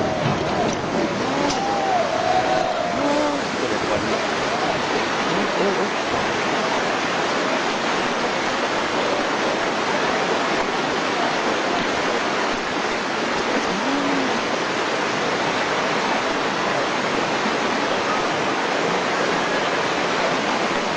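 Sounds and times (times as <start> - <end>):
floodwater rushing: 0.0 - 20.9.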